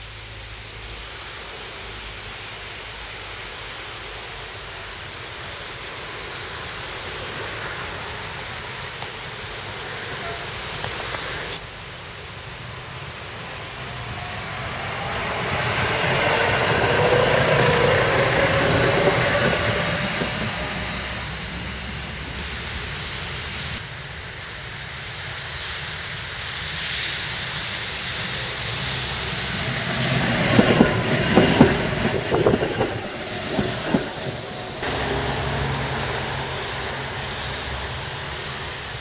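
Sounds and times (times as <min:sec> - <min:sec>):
tram hissing and clicking: 0:00.0 - 0:39.0
tram rolling past: 0:00.0 - 0:39.0.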